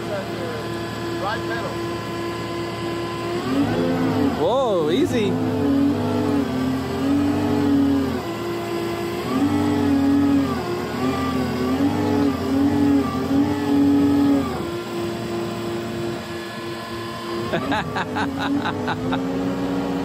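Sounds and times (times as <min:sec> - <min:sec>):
diesel engine of track loader: 0:00.0 - 0:20.0.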